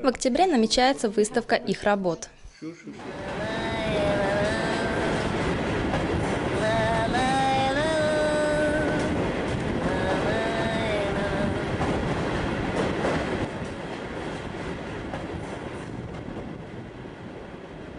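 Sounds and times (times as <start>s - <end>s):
train carriage rumble: 3.0s - 17.9s.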